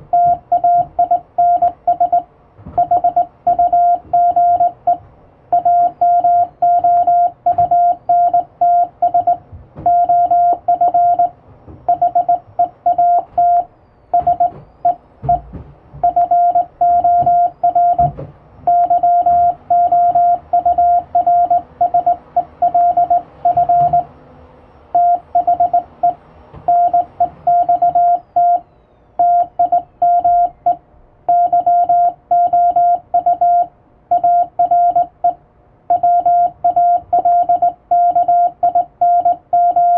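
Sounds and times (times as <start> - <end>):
morse code beeping: 0.1 - 24.1, 24.9 - 39.9.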